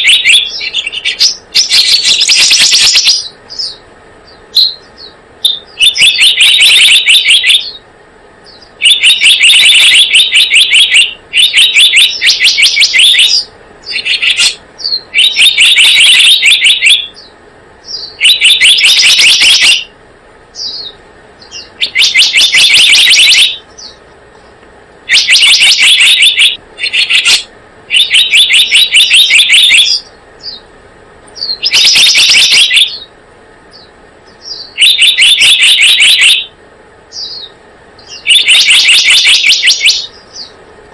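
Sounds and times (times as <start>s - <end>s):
bird trilling high notes: 0.0s - 3.8s, 4.5s - 7.8s, 8.5s - 19.9s, 20.6s - 24.0s, 25.1s - 30.6s, 31.4s - 33.1s, 33.8s - 40.5s
bird chips: 0.0s - 7.8s, 8.4s - 19.9s, 20.5s - 30.7s, 31.3s - 33.1s, 37.1s - 40.6s.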